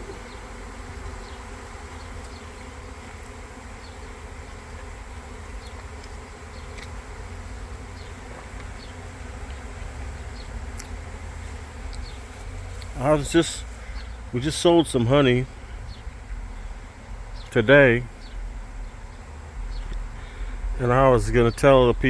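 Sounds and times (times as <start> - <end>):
honeybee swarm buzzing: 0.0 - 22.0.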